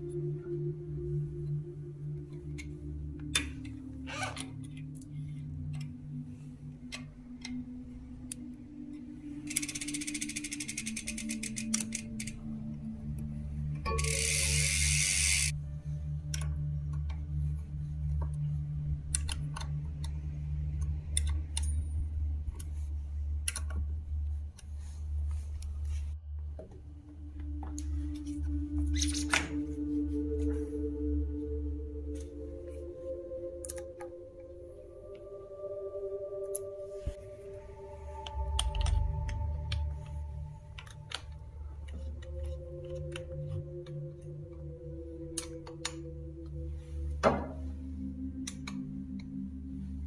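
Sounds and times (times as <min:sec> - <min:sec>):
background music: 0:00.0 - 0:50.0
steady low hum: 0:00.0 - 0:50.0.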